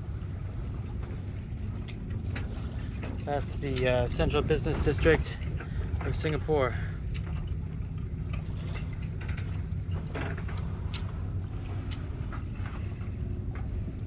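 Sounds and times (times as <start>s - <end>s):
water: 0.0s - 14.0s
wind: 0.0s - 14.0s.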